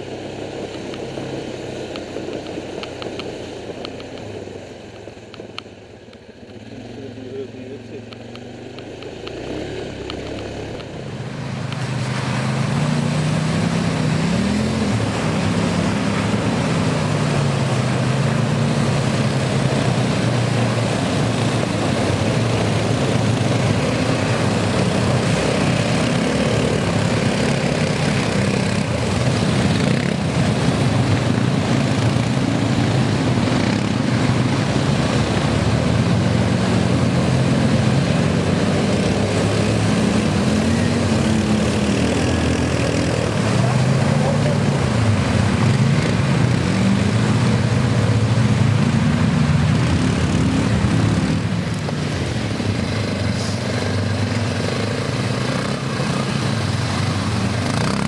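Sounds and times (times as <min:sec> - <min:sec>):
atv engines droning and revving: 0:00.0 - 0:58.0
water rushing and spraying: 0:00.0 - 0:58.0.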